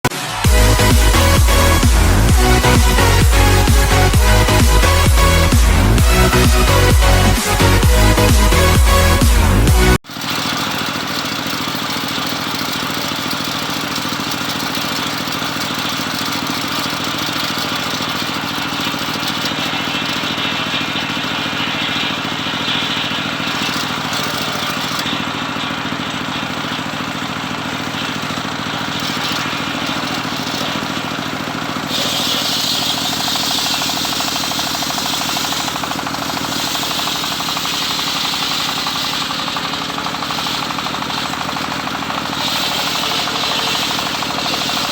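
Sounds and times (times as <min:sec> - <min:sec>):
circular saw cutting wood: 0:00.0 - 0:44.9.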